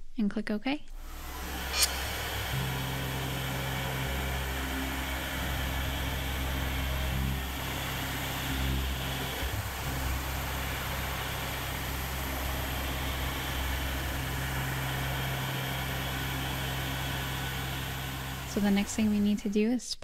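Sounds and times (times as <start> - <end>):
milling machine hum and hiss: 1.0 - 19.6.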